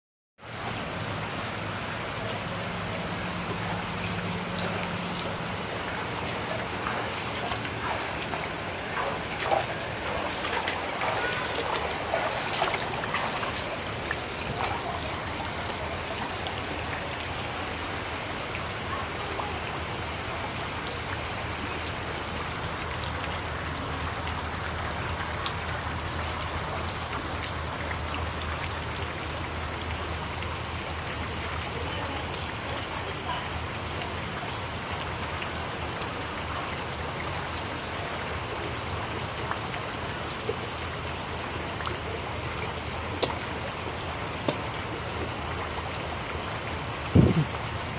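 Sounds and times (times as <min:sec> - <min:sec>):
rain falling on water: 0:00.4 - 0:47.9.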